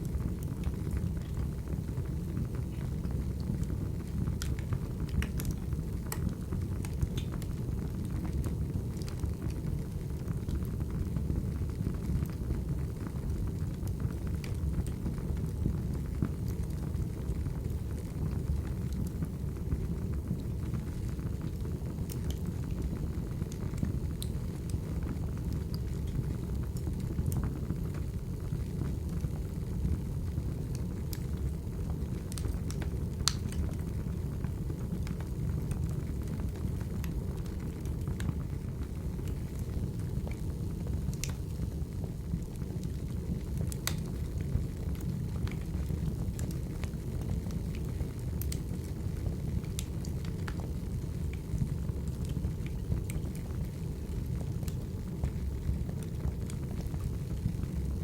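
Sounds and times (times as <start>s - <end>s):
fire rumbling: 0.0s - 58.0s
logs crackling and popping: 2.6s - 12.7s, 13.4s - 58.0s.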